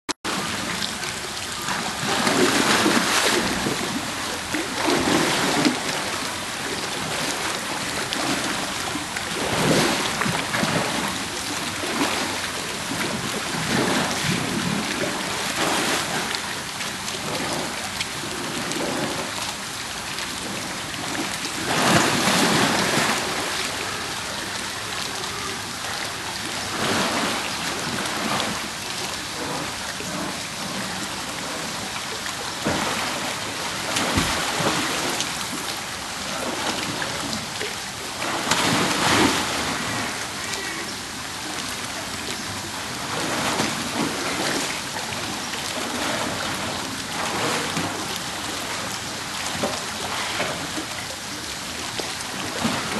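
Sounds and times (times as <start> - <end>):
water rushing: 0.3 - 52.9
water splashing: 0.3 - 52.9.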